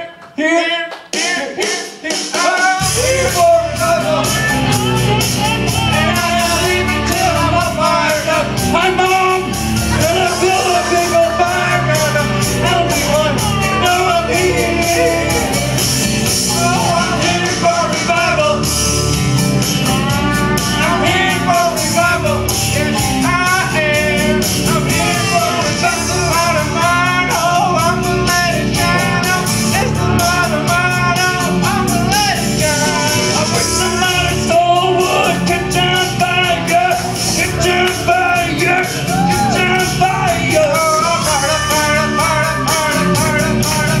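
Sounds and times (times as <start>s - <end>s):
song with singing and accompaniment: 0.0s - 44.0s.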